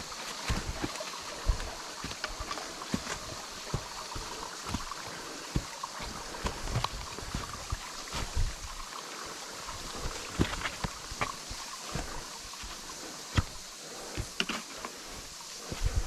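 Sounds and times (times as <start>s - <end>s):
waterfall trickling into stream: 0.0s - 16.0s.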